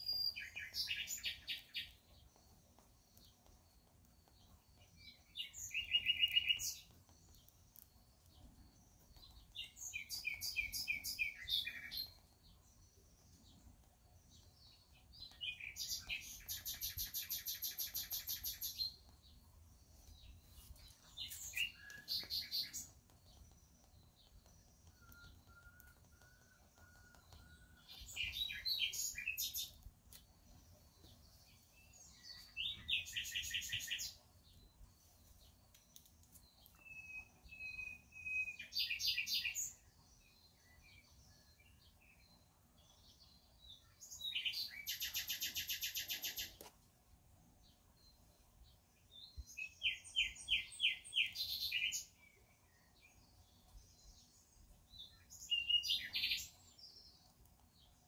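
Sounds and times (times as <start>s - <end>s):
songbird chirping and trilling: 0.0s - 58.0s.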